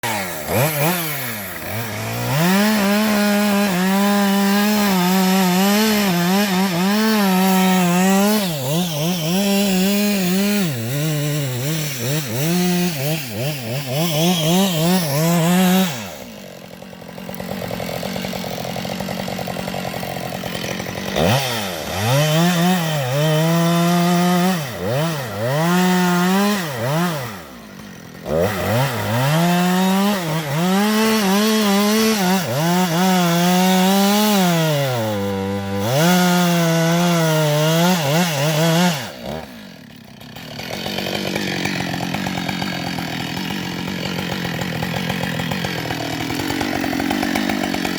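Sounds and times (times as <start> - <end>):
chainsaw engine revving: 0.0 - 47.9.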